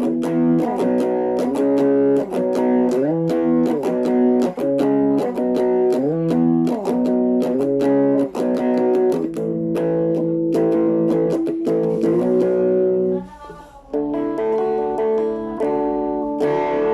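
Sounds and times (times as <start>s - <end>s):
electric guitar strumming chords: 0.0s - 16.9s.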